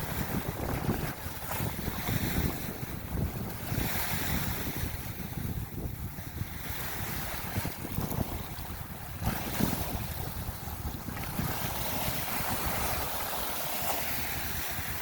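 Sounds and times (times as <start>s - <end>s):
rushing water: 0.0s - 15.0s
wind buffeting microphone: 0.0s - 15.0s.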